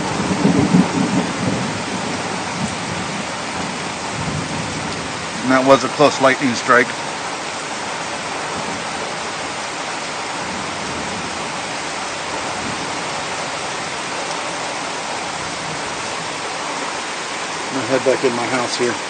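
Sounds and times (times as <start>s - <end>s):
torrential rain pouring: 0.0s - 19.0s.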